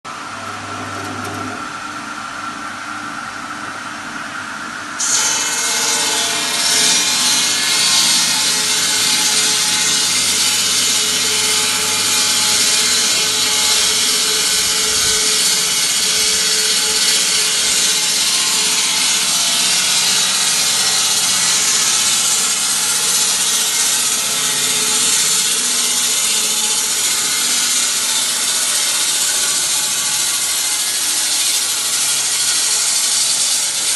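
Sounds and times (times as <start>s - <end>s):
stone-cutting machine motor humming: 0.2s - 1.8s, 5.0s - 33.9s
blade cutting stone: 5.0s - 33.9s.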